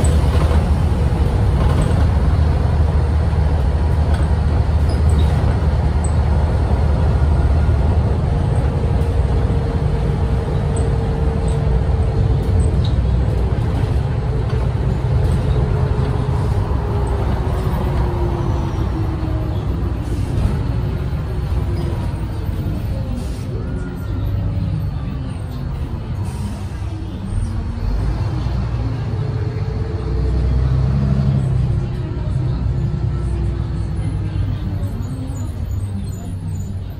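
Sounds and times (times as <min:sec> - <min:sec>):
bus engine rumble: 0:00.0 - 0:36.9.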